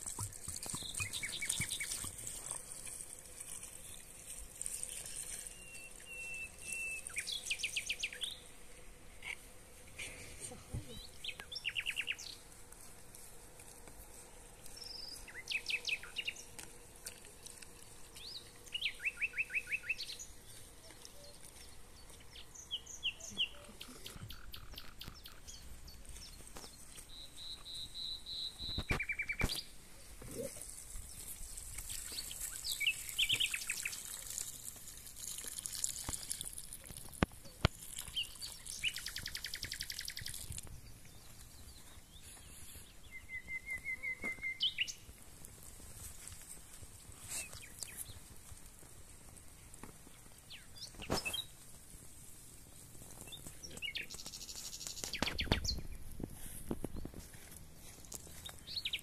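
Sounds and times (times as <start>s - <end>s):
songbirds singing: 0.0s - 10.2s, 10.8s - 12.5s, 14.4s - 34.5s, 35.3s - 45.2s, 47.0s - 48.4s, 49.6s - 51.7s, 52.5s - 59.0s
faint hiss: 0.0s - 59.0s.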